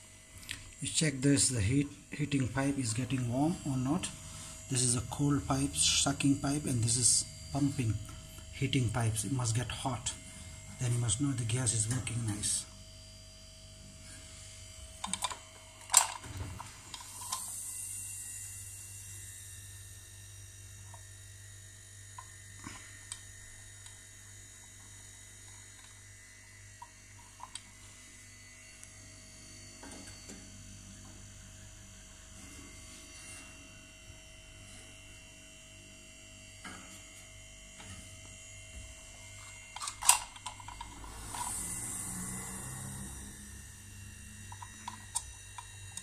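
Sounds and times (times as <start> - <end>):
compressor humming: 0.0 - 46.0.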